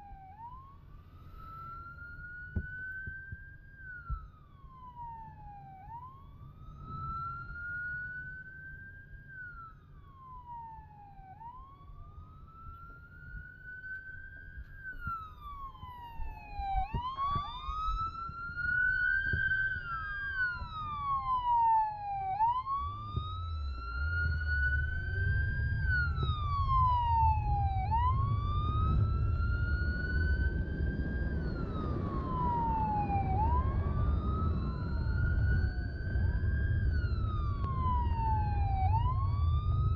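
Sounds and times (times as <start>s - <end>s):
motorcycle engine and wind rumble: 0.0s - 39.9s
police siren wailing: 0.0s - 39.9s
second siren: 0.0s - 39.9s.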